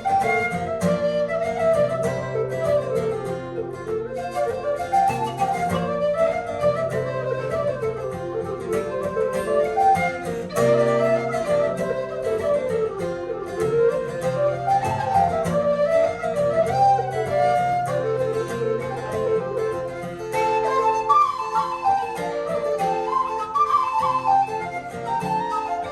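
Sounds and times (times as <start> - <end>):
plucked strings: 0.0 - 25.9
wind instrument melody: 0.0 - 25.9.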